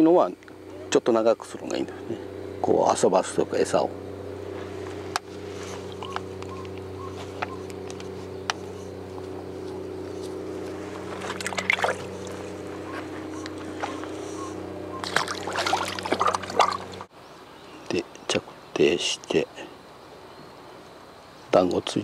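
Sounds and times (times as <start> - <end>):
boat engine humming: 0.0 - 21.5.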